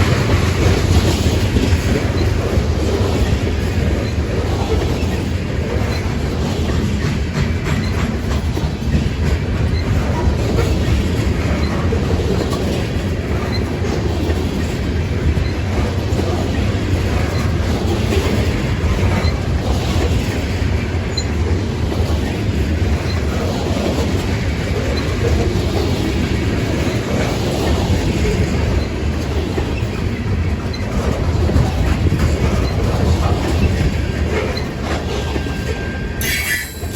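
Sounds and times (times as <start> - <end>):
freight cars rolling on rails: 0.0 - 36.9
wheels clicking over rail joints: 0.0 - 36.9.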